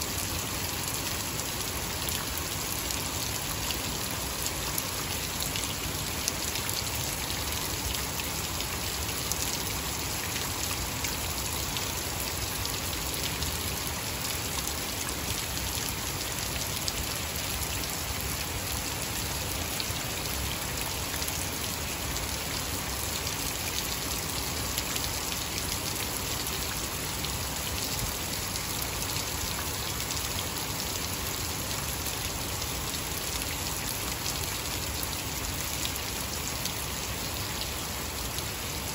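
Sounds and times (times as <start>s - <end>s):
heavy rain on wet lawn: 0.0s - 38.9s.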